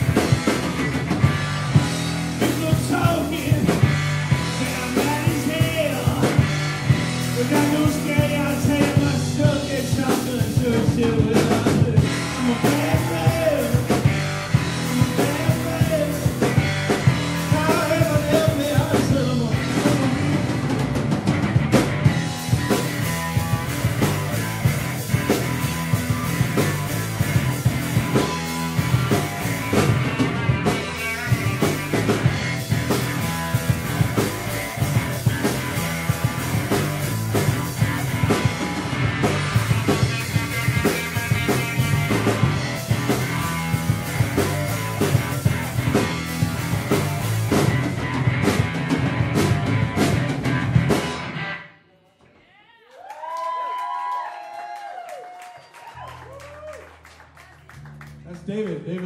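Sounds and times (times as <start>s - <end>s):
drum kit beat: 0.0s - 51.6s
electric guitars: 0.0s - 51.9s
bass guitar: 0.0s - 52.3s, 55.9s - 59.0s.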